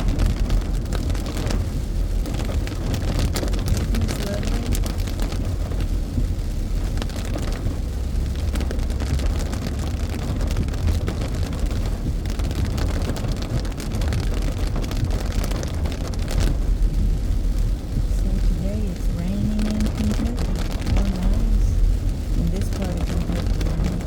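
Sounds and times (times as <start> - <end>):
car engine and tyres rumbling: 0.0 - 24.0
rain hissing and tapping on car: 0.0 - 24.0.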